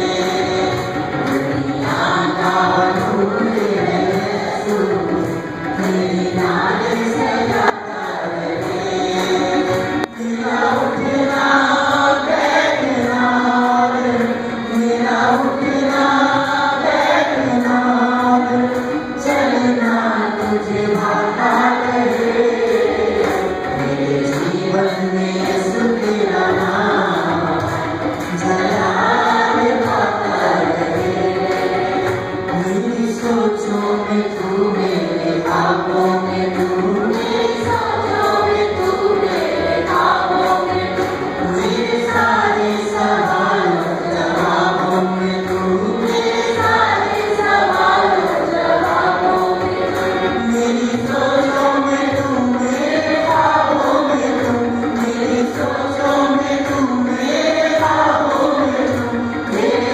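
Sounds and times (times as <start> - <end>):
choir singing a worship song: 0.0 - 59.9.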